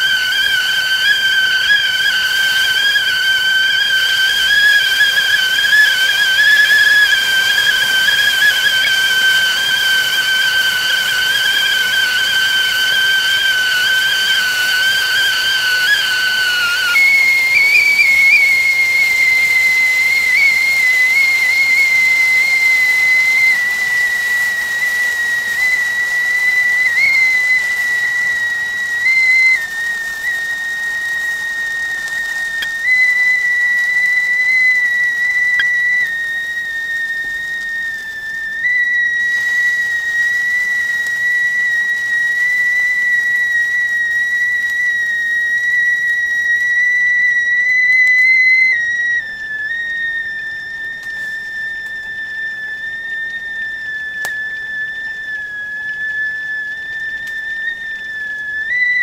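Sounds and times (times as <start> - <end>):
steam hissing: 0.0 - 59.0
tea kettle whistling: 0.0 - 59.0.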